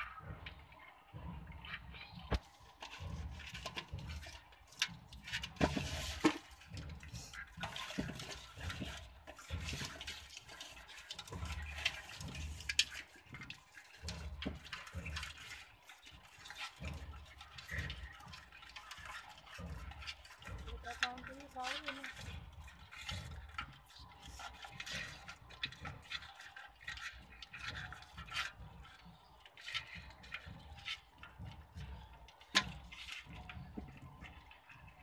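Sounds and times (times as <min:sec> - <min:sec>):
crab shells clicking and scraping: 0:00.0 - 0:35.0.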